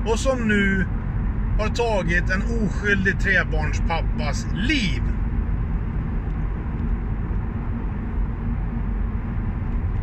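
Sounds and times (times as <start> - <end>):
car cabin road and engine rumble: 0.0 - 10.0.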